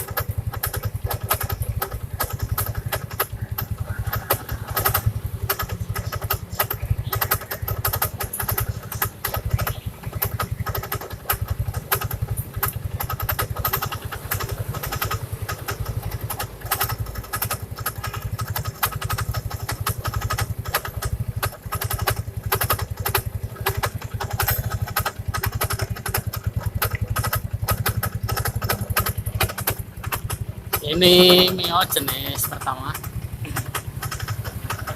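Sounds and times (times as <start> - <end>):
rapid irregular knocking: 0.0 - 34.9
scooter engine idling: 0.0 - 34.9.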